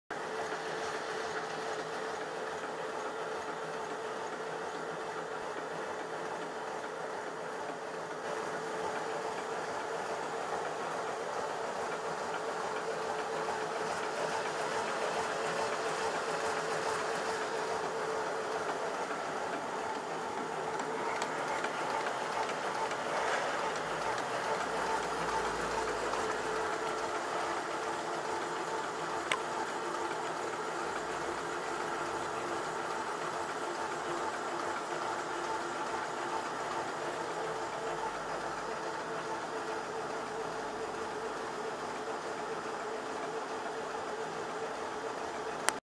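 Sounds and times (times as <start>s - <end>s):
constant machine hum: 0.1s - 45.8s
machine rapid mechanical clatter: 0.2s - 45.8s.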